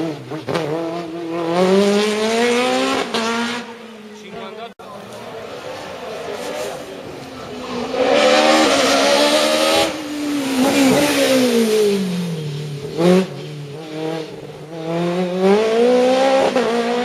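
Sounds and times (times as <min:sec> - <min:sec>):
engine revving: 0:00.0 - 0:03.9, 0:06.1 - 0:17.0.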